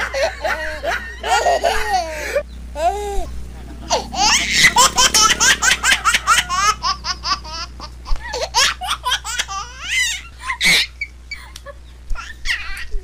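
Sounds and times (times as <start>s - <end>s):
woman laughing: 0.0s - 8.8s, 9.7s - 11.9s.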